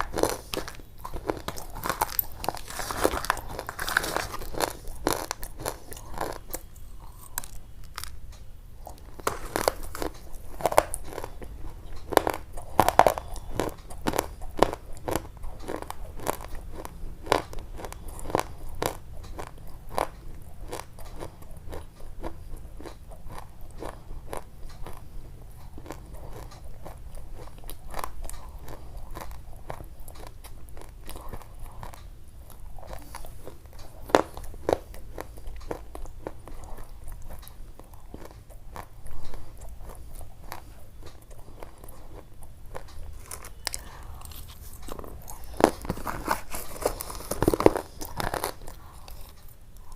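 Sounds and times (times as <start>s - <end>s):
chewing crunching something crisp: 0.0s - 49.9s.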